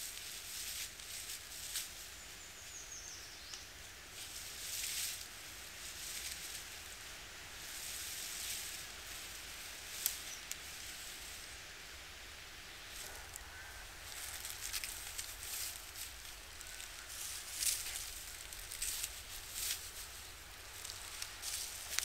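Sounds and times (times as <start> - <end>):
leafy branches rustling: 0.0 - 22.0.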